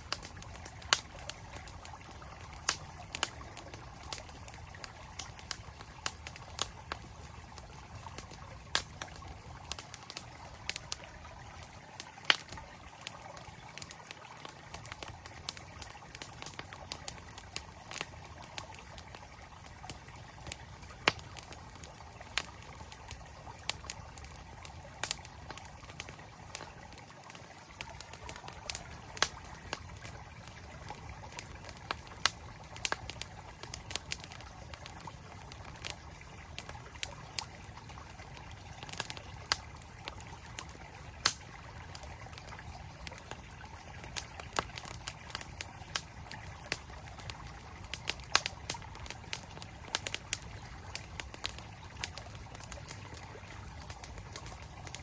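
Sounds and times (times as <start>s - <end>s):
campfire crackling: 0.0s - 55.0s
flowing stream: 0.0s - 55.0s.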